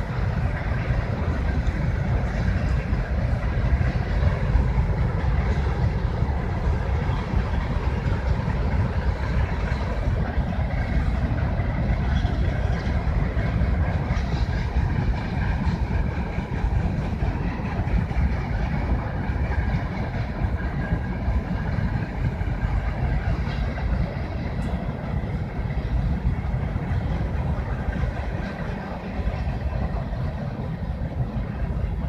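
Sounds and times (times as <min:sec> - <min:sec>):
freight train rumbling: 0:00.0 - 0:32.0.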